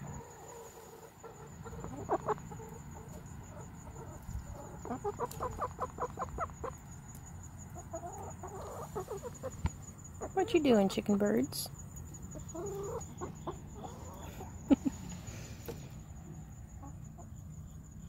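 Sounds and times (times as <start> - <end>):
hens clucking: 0.0 - 17.4.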